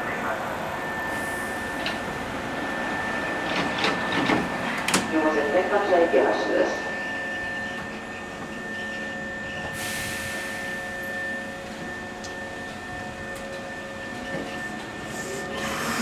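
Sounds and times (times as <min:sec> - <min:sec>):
train high-pitched whine: 0:00.0 - 0:16.0.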